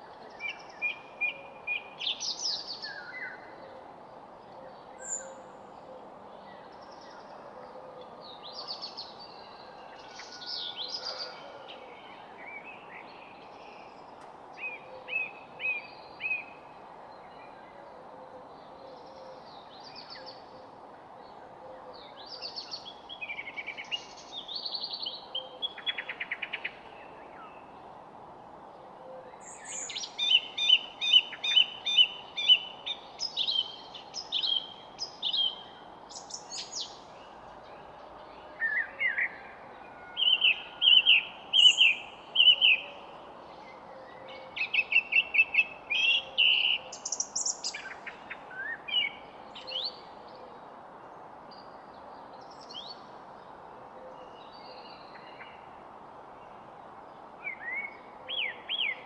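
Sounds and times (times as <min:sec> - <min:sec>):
songbirds chirping: 0:00.0 - 0:59.0
steady background hiss: 0:00.0 - 0:59.0.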